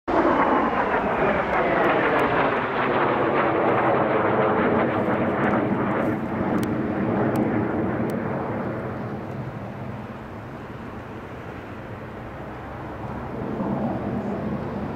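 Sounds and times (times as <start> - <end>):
jet engine roar: 0.1 - 14.9.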